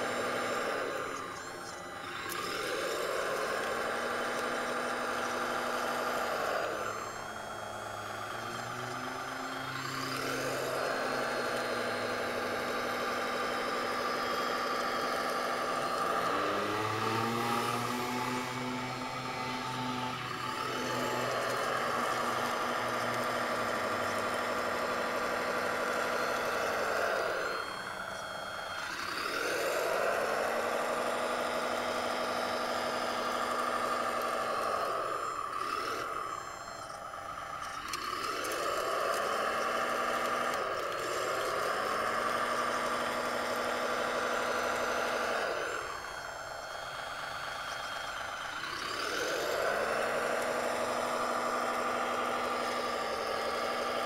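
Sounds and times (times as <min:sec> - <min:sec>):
model loader motor whine: 0:00.0 - 0:54.0.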